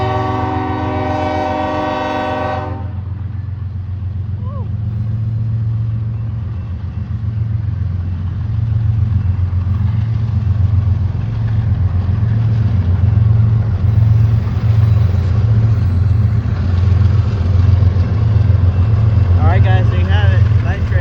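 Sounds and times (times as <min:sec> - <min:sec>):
train engine rumble: 0:00.0 - 0:21.0.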